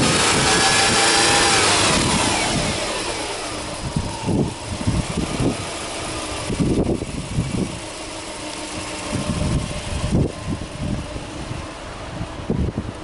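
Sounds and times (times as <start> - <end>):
car engine revving then idling: 0.0 - 13.0.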